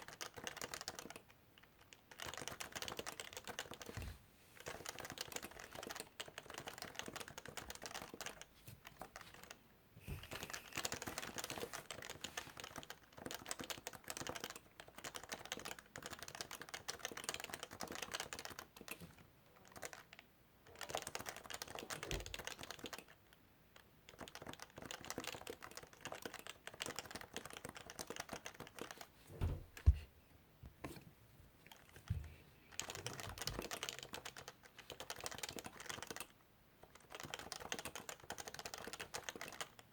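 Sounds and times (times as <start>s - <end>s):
keyboard typing: 0.0s - 4.0s, 4.6s - 9.6s, 10.2s - 19.0s, 19.6s - 23.2s, 24.1s - 29.1s, 32.7s - 39.9s.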